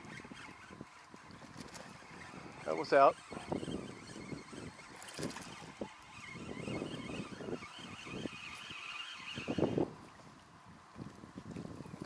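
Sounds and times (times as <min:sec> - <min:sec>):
fishing reel cranked fast: 0:00.0 - 0:10.0.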